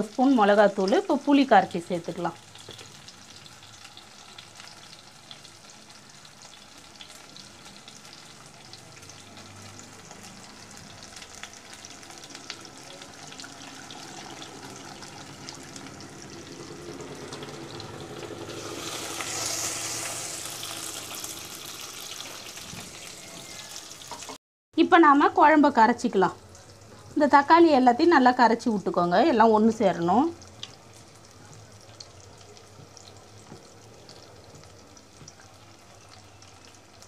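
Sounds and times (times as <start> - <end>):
vegetables sizzling in oil: 0.0 - 24.4, 25.0 - 37.0.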